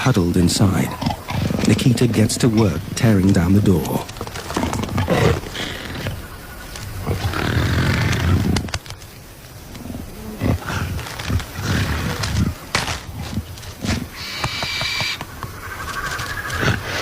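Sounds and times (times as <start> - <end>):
leopard growling: 0.0 - 8.9, 9.7 - 17.0.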